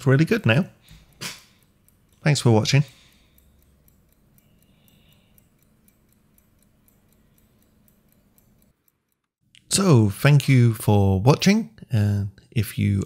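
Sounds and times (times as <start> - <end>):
mechanical watch ticking: 0.0 - 12.0.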